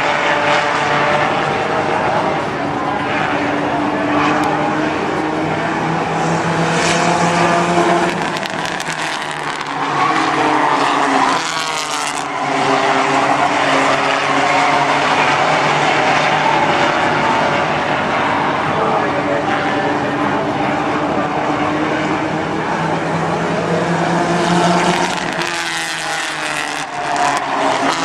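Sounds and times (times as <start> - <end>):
race car engines revving: 0.0 - 28.0.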